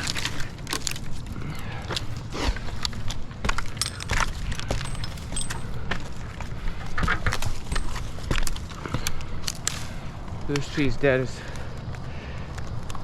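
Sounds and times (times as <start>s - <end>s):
climbing gear knocks and clinks: 0.0s - 11.7s
steady low rumble: 0.0s - 13.0s.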